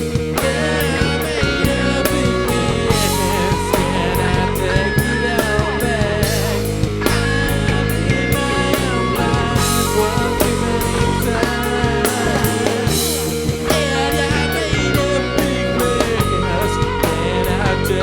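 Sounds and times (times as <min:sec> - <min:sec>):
live rock music: 0:00.0 - 0:18.0.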